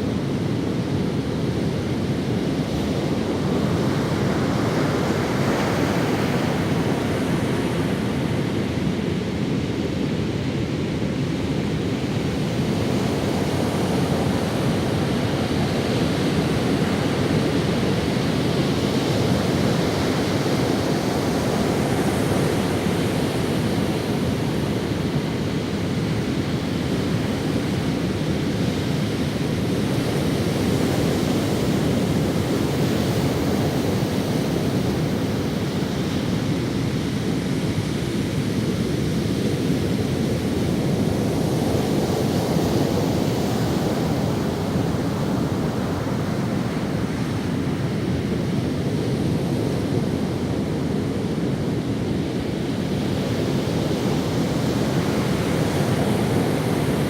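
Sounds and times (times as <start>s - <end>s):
ocean waves breaking on sand: 0.0s - 57.0s.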